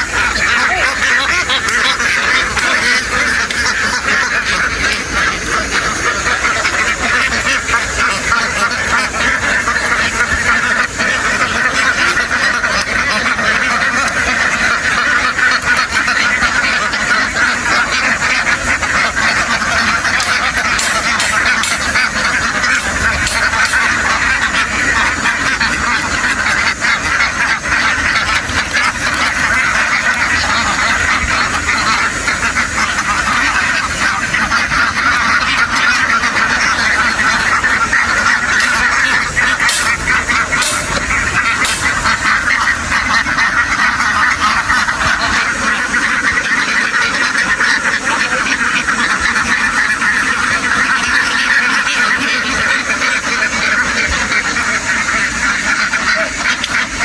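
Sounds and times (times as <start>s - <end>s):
flock of ducks quacking: 0.0s - 57.0s.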